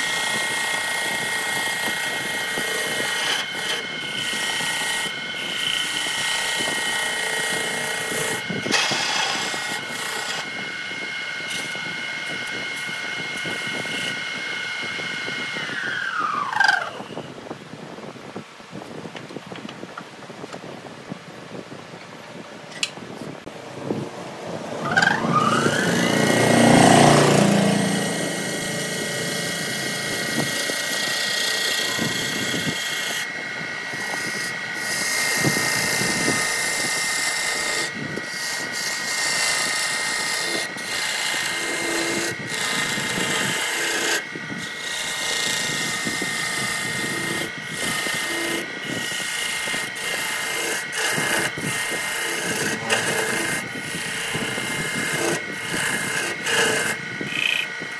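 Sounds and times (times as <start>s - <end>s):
turning tool scraping wood: 0.0s - 17.3s, 24.7s - 57.9s
wood lathe motor whine: 0.0s - 18.3s, 23.5s - 57.9s.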